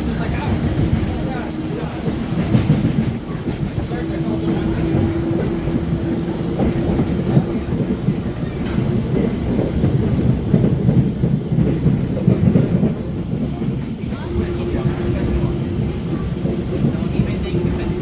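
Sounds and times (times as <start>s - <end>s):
subway wheels clattering on rails: 0.0s - 18.0s.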